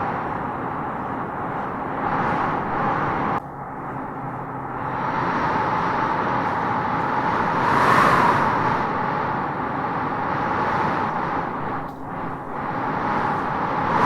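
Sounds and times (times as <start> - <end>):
wind gusting through trees: 0.0 - 14.0.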